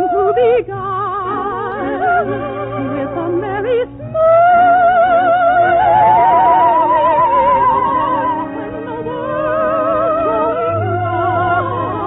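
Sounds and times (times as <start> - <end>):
operatic singing: 0.0 - 12.0
orchestral accompaniment: 0.1 - 12.0.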